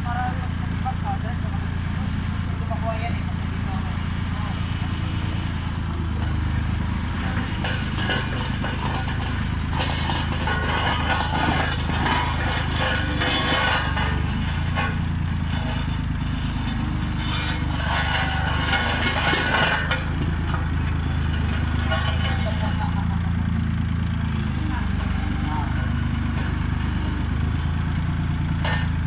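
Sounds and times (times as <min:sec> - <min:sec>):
road roller engine running: 0:00.0 - 0:29.0.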